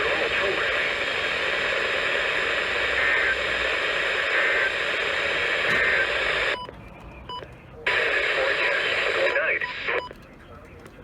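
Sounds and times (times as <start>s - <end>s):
radio static hiss: 0.0s - 6.6s, 7.8s - 11.0s
faint weak radio signal: 0.0s - 6.7s, 7.3s - 11.0s.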